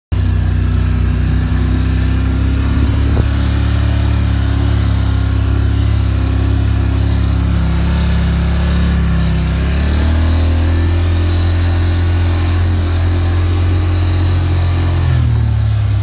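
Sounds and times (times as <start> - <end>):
quad bike engine running: 0.1 - 16.0.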